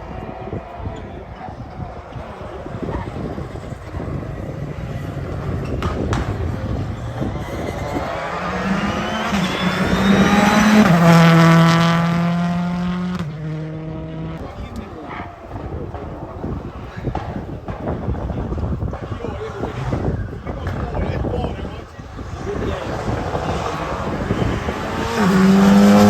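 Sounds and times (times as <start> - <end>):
rally car passing at full throttle: 0.0 - 26.0.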